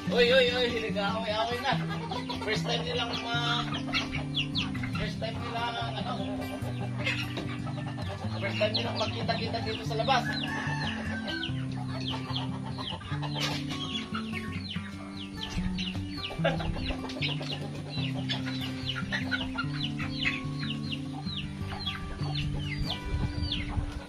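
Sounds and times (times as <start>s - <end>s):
chickens clucking: 0.0s - 24.0s
chicks peeping: 0.0s - 24.0s
music with low chords: 0.0s - 24.0s.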